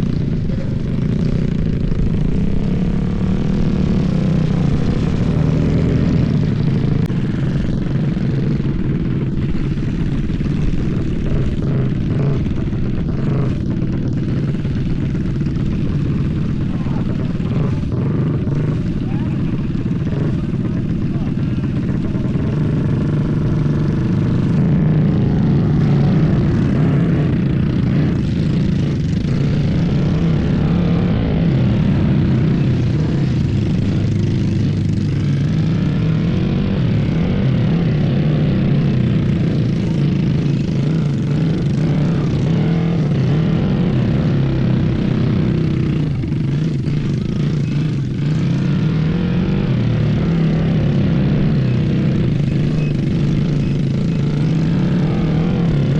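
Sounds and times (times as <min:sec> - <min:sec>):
small engines revving: 0:00.0 - 0:55.9.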